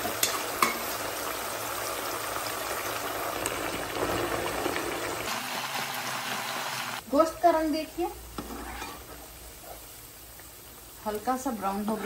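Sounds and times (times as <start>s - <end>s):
meat deep-frying in oil: 0.0s - 12.0s.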